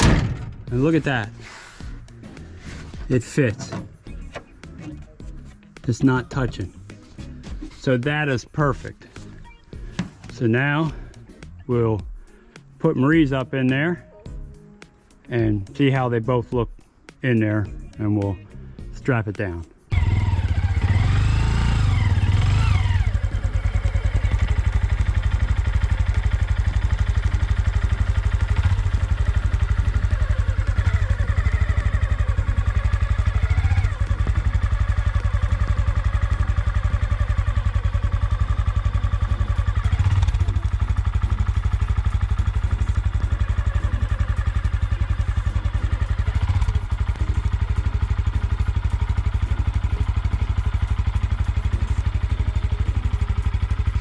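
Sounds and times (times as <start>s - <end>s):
motorcycle engine running: 0.0s - 11.6s, 19.9s - 54.0s.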